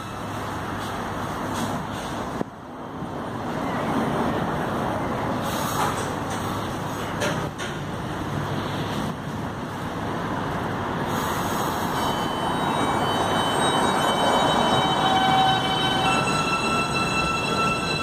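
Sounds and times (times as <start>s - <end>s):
subway train rumble and hum: 0.0s - 18.0s.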